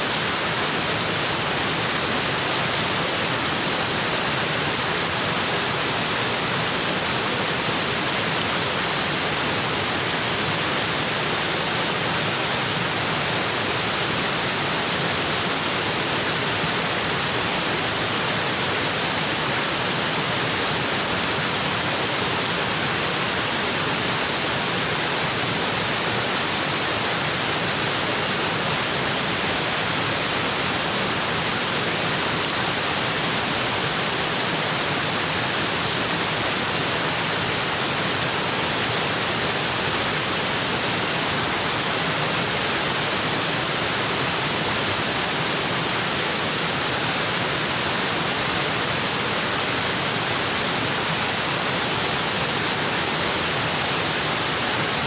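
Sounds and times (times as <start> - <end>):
waterfall onto rocks: 0.0 - 55.0.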